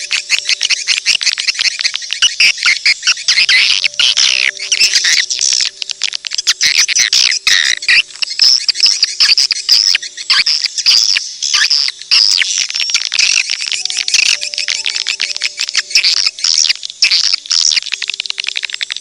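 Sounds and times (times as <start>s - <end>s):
swiftlets twittering chirps: 0.0s - 19.0s.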